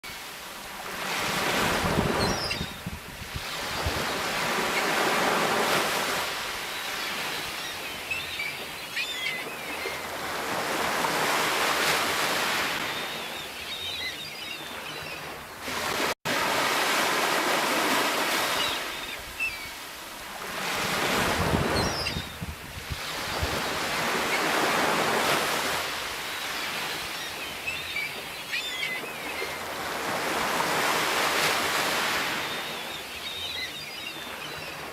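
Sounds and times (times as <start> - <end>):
sea waves washing ashore: 0.0 - 13.7, 14.6 - 34.9.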